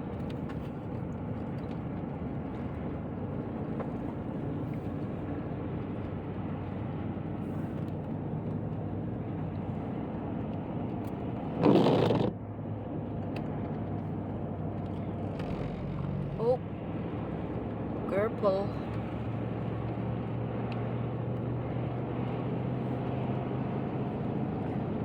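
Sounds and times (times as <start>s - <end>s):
car cabin road and engine noise: 0.0s - 25.0s.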